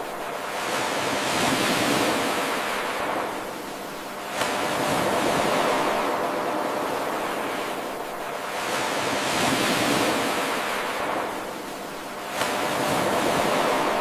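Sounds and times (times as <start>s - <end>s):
ocean waves washing on shore: 0.0s - 14.0s.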